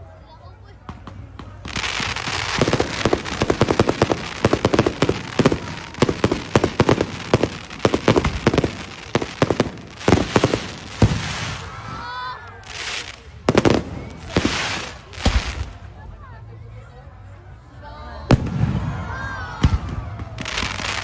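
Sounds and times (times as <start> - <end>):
fireworks crackling and banging: 0.8 - 16.1, 18.3 - 21.0.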